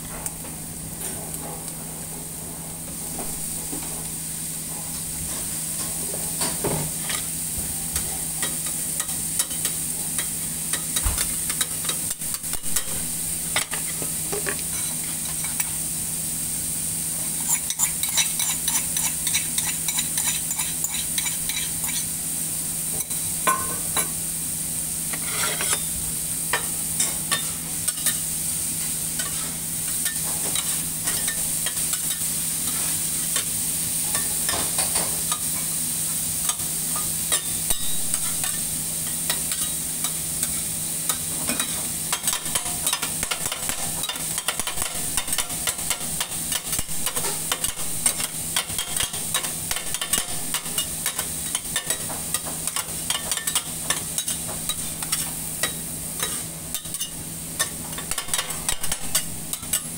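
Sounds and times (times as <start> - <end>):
food sizzling on a griddle: 0.0 - 59.9.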